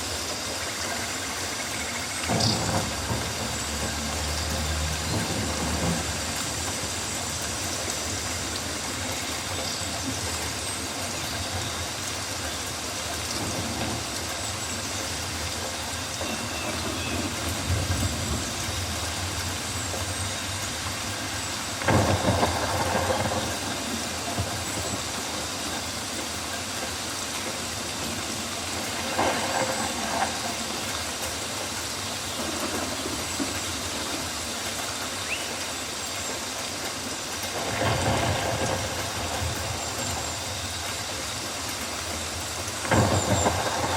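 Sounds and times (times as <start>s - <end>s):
rain falling on foliage: 0.0s - 43.9s.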